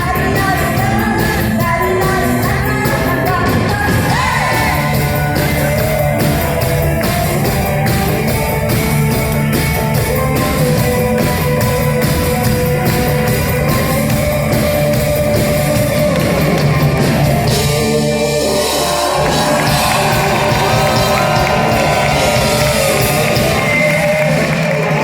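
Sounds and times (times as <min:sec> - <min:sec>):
drum kit beat: 0:00.0 - 0:25.0
electric guitar: 0:00.0 - 0:25.0
live pop-rock band playing: 0:00.0 - 0:25.0.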